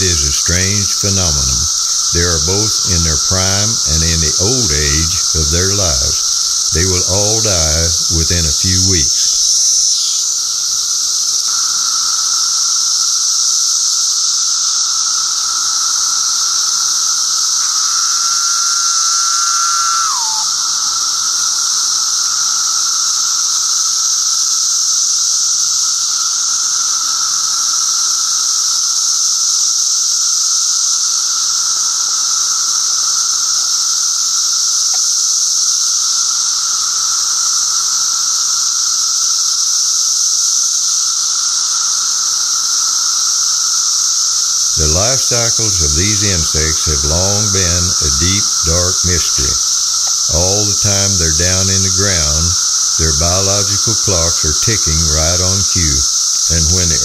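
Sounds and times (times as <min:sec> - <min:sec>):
cicadas chorus: 0:00.0 - 0:57.0
single louder cicada call: 0:00.0 - 0:57.0.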